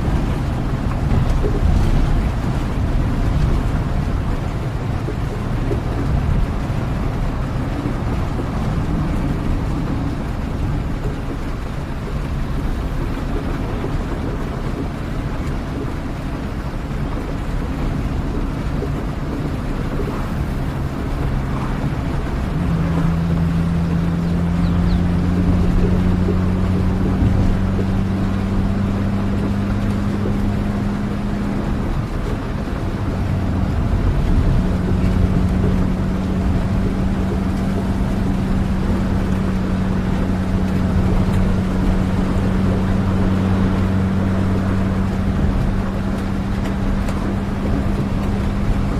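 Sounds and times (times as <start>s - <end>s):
rain: 0.0s - 48.9s
vehicle engine drone: 0.0s - 48.9s.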